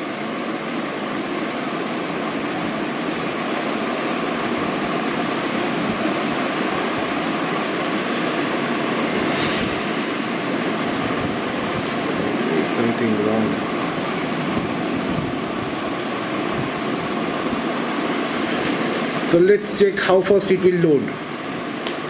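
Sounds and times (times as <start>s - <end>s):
room noise hiss: 0.0s - 22.0s.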